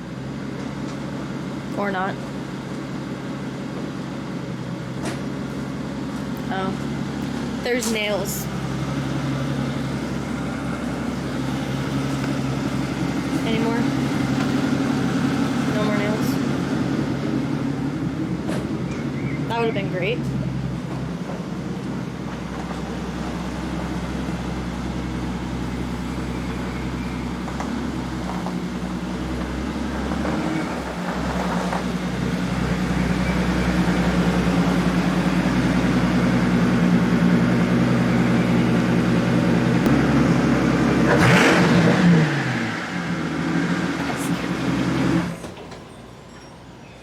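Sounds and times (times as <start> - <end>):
car engine running at low speed: 0.0 - 47.0.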